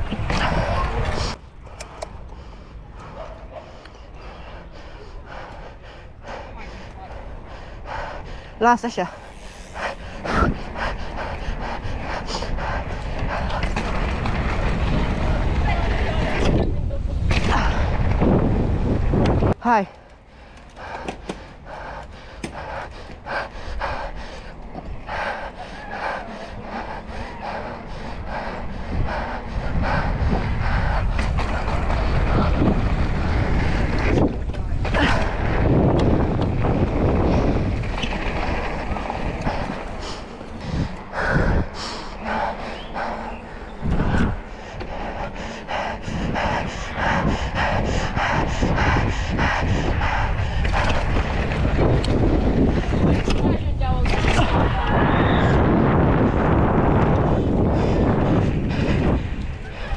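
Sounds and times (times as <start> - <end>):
heavy rasping breathing: 0.0 - 16.5, 17.4 - 59.9
tyres on asphalt: 0.0 - 59.9
wind on microphone: 0.0 - 59.9.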